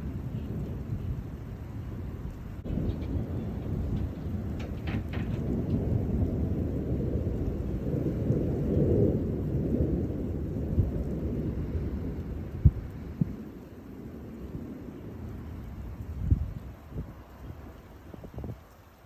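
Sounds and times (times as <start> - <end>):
rolling thunder rumbling: 0.0 - 19.0
steady rain: 0.0 - 19.0.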